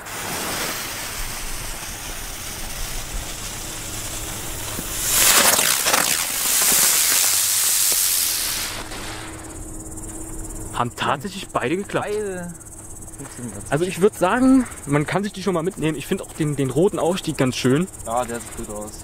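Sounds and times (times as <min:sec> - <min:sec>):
spinner fireworks hissing: 0:00.0 - 0:19.0.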